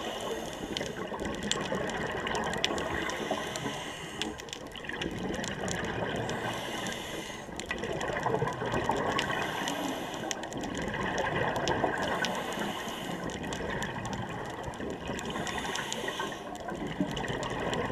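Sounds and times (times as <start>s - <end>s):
faint clicks: 0.0s - 17.9s
underwater bubbles gurgling: 0.0s - 17.9s.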